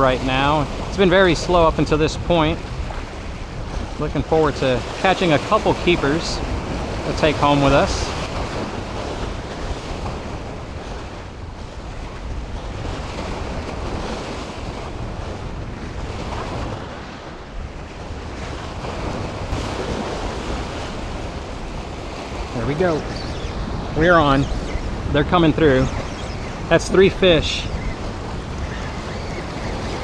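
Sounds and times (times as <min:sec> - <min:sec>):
surf washing against rocks: 0:00.0 - 0:30.0
wind buffeting microphone: 0:00.0 - 0:30.0.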